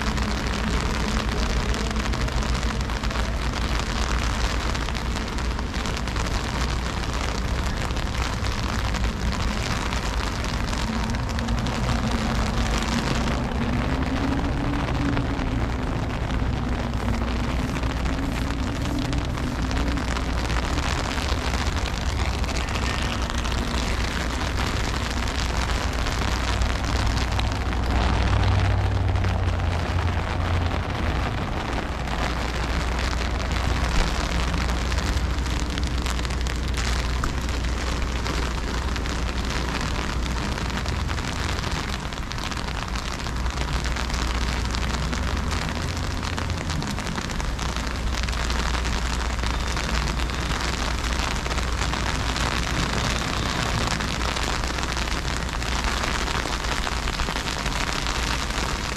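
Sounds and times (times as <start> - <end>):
low rumble: 0.0 - 56.0
freezing rain falling: 0.0 - 58.9.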